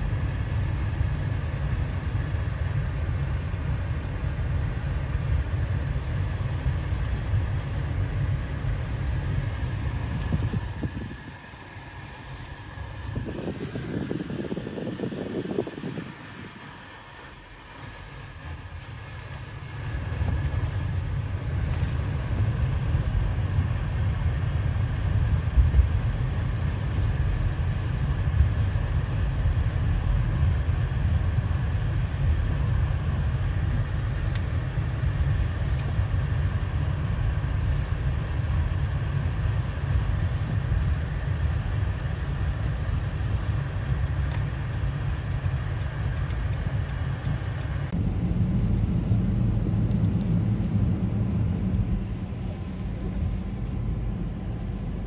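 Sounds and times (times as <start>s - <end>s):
car rumble on snowy road: 0.0s - 55.0s
faint steady whine: 0.0s - 55.0s.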